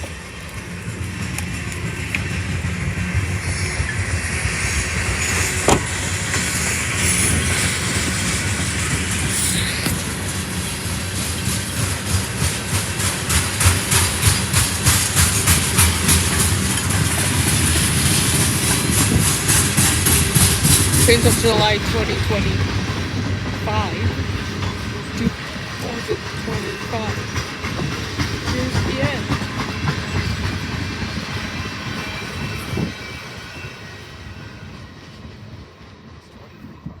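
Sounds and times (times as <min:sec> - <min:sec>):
train wheels clicking on rail joints: 0:00.0 - 0:36.5.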